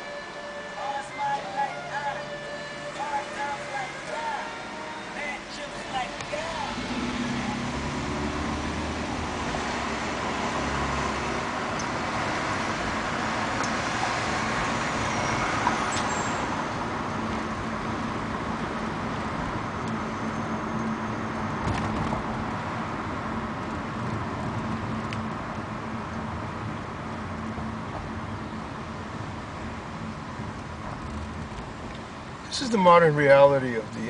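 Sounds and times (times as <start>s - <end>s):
road noise inside moving car: 0.0s - 34.0s.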